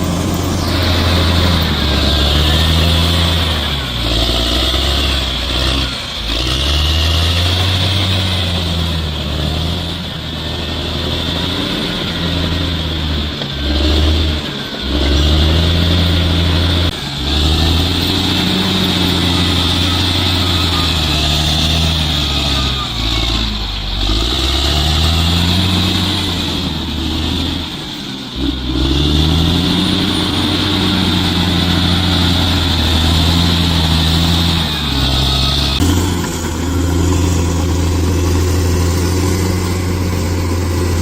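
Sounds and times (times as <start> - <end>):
bulldozer diesel engine working: 0.0 - 41.0.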